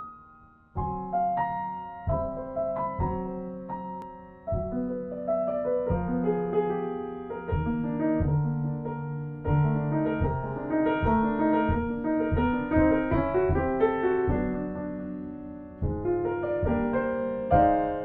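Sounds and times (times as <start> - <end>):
slow jazz piano: 0.0 - 18.0.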